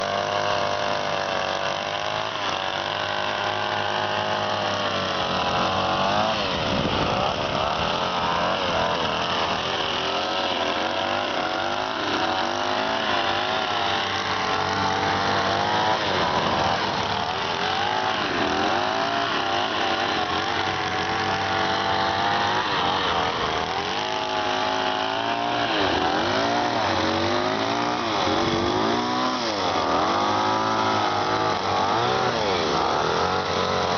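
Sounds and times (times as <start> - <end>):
brush cutter engine running: 0.0 - 33.9.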